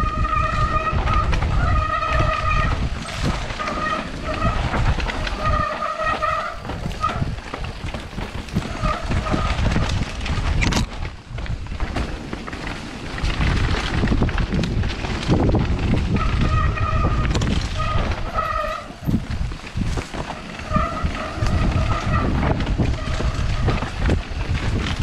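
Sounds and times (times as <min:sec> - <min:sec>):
bike rattling and knocking: 0:00.0 - 0:25.0
wind buffeting microphone: 0:00.0 - 0:25.0.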